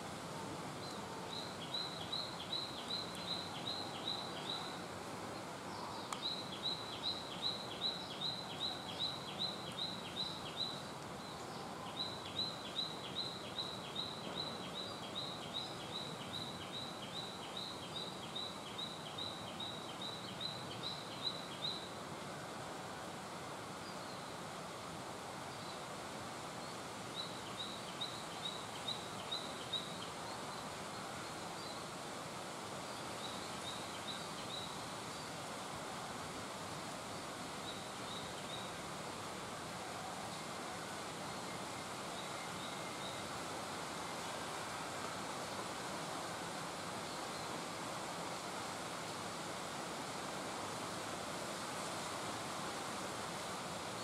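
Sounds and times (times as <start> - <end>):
outdoor background hiss: 0.0 - 54.0.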